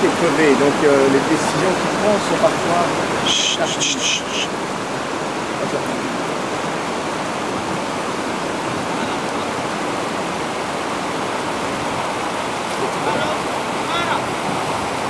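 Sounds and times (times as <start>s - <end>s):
river rapids rushing over rocks: 0.0s - 15.0s.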